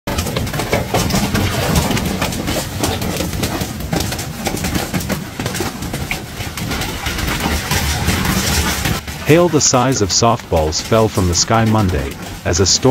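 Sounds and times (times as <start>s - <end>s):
hailstones pelting vehicles and ground: 0.1s - 12.9s.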